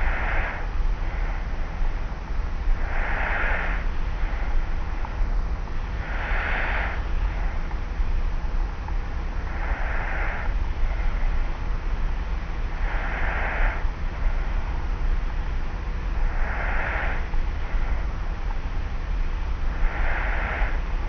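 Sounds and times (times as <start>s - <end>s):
tape hum and hiss: 0.0s - 21.0s.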